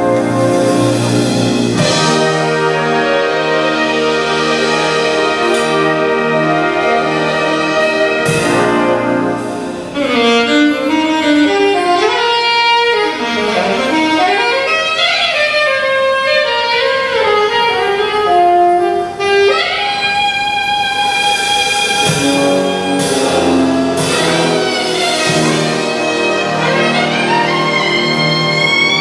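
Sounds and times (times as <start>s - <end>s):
wind band playing: 0.0s - 29.0s.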